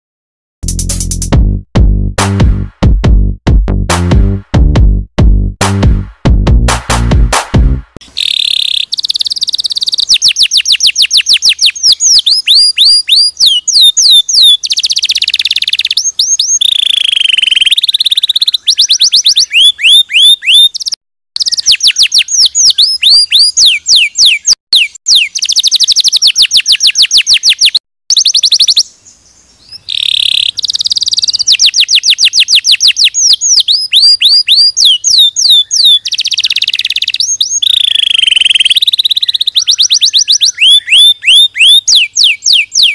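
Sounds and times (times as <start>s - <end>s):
canary singing: 8.0s - 42.9s.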